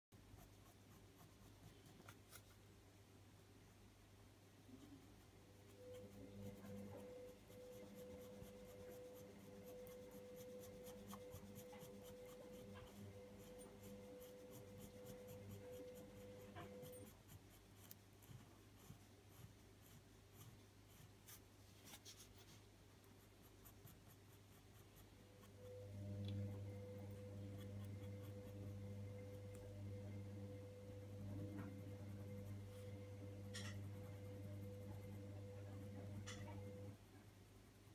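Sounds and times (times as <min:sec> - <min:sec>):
pencil scratching on paper: 0:00.2 - 0:02.6, 0:05.2 - 0:37.0
steady low hum: 0:00.2 - 0:37.9.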